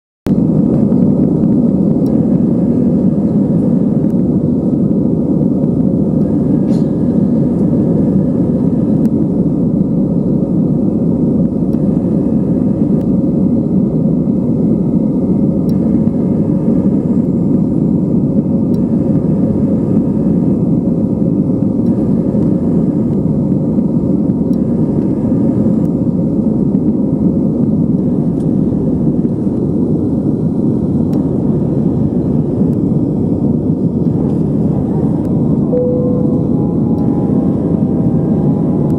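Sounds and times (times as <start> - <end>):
jet engines and runway rumble: 0.3 - 38.9.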